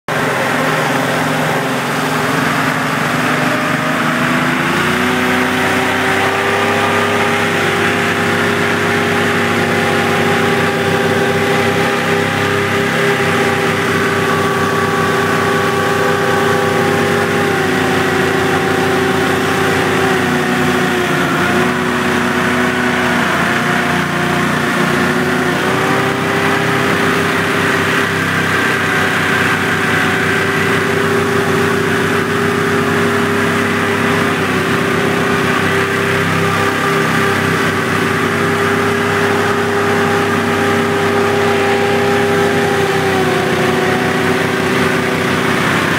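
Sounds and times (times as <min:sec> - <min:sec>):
hovercraft engine running: 0:00.0 - 0:45.9.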